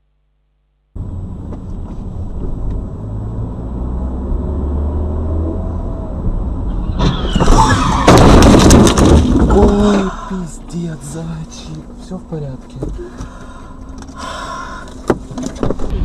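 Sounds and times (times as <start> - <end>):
car engine and road noise: 0.8 - 16.0.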